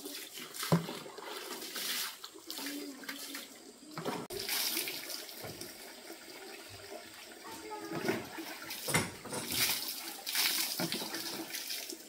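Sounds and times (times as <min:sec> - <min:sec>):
water splashing and pouring: 0:00.0 - 0:12.0.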